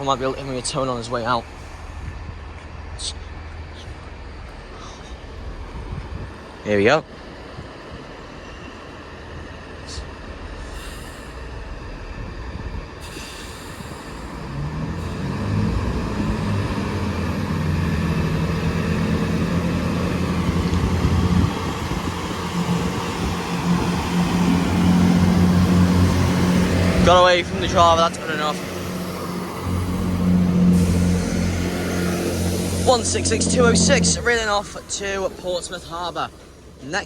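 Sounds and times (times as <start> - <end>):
diesel train engine drone: 0.0 - 37.0.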